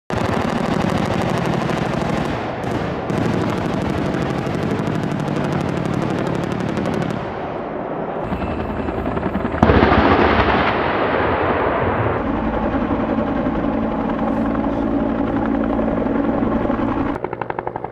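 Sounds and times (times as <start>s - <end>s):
helicopter gun firing rapid burst: 0.1s - 7.4s, 8.2s - 17.9s
helicopter rotor and engine: 0.1s - 17.9s.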